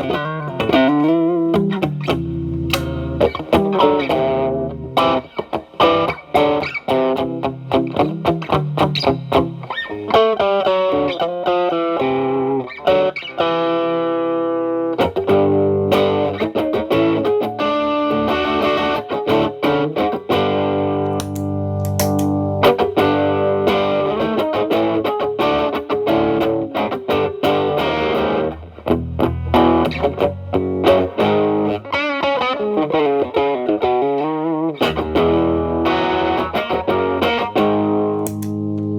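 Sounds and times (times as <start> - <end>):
electric guitar with light overdrive: 0.0 - 38.9.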